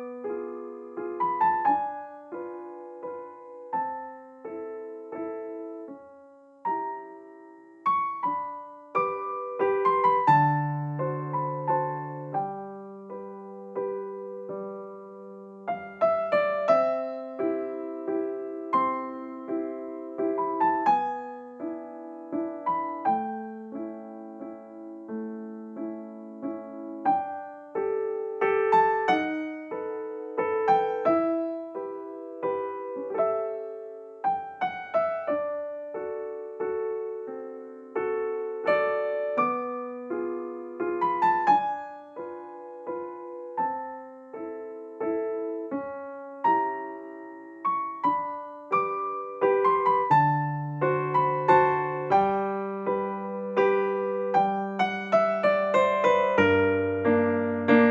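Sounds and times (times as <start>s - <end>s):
gentle piano melody: 0.0s - 57.9s.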